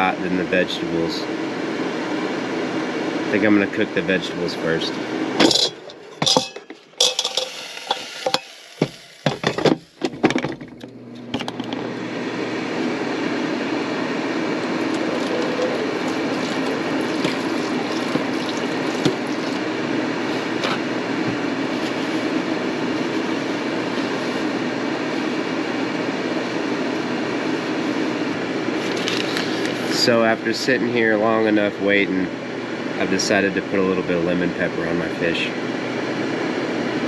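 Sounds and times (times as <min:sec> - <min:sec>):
air fryer fan humming: 0:00.0 - 0:37.0.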